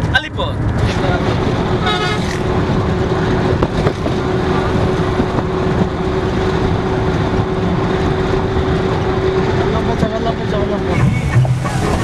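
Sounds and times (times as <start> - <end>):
vehicle driving on road: 0.0 - 12.0.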